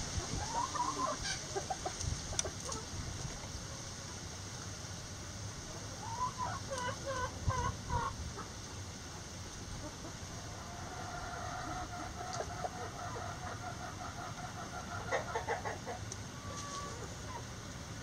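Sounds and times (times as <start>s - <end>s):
chickens clucking: 0.0s - 4.3s, 5.6s - 17.8s.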